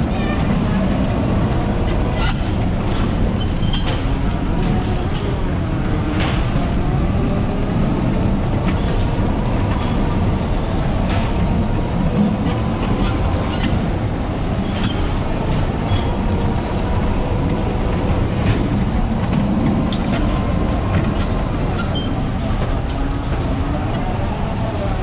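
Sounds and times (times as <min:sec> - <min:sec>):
bumper car rumbling on metal floor: 0:00.0 - 0:25.0.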